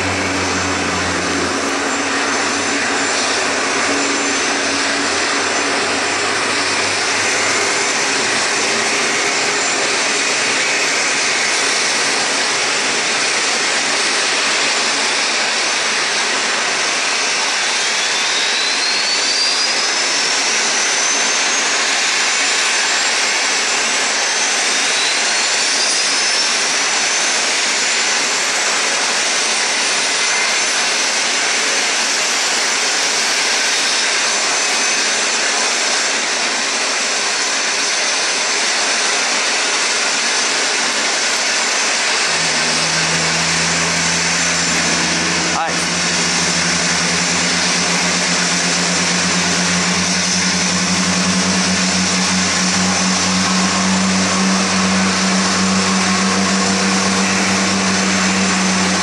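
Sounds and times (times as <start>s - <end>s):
jet engine whine rising: 0.0s - 59.0s
jet engines rushing: 0.0s - 59.0s.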